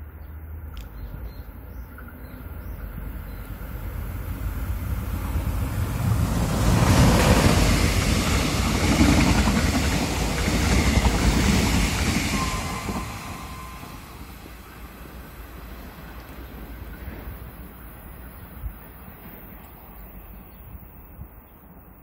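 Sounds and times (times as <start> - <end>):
passenger train passing: 0.0 - 22.0.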